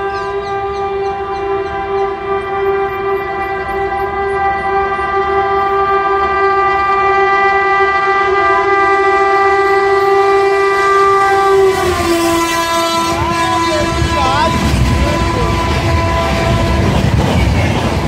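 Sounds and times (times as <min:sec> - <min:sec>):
train horn blast: 0:00.0 - 0:18.0.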